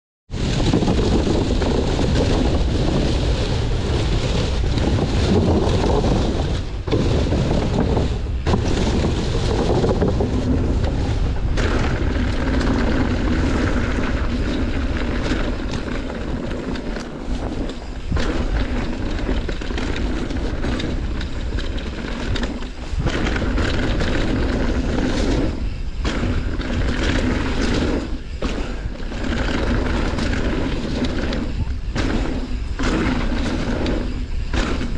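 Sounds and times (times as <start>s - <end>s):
bike tyres rumbling and rattling: 0.3s - 34.9s
wind buffeting microphone: 0.3s - 34.9s.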